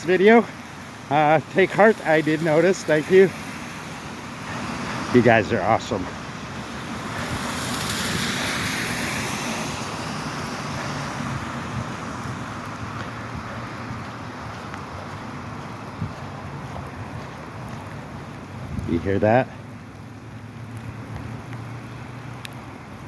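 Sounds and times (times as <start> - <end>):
rain falling: 0.0 - 23.0
tyres swishing on wet road: 0.0 - 23.0.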